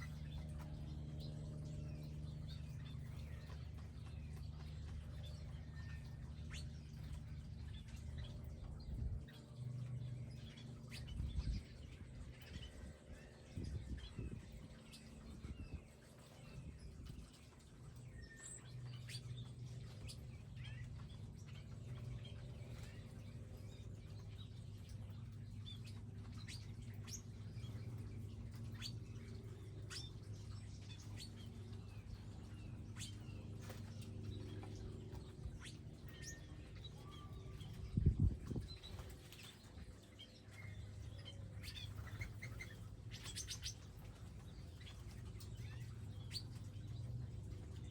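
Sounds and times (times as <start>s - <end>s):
small birds chirping: 0.0s - 47.9s
steady low hum: 0.0s - 47.9s.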